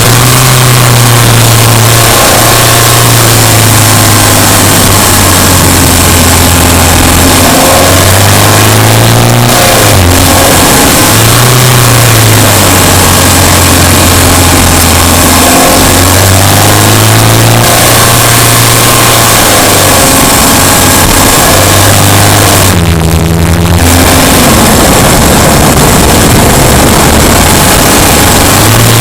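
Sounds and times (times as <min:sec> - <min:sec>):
car engine revving while driving: 0:00.0 - 0:29.0
road noise: 0:00.0 - 0:29.0.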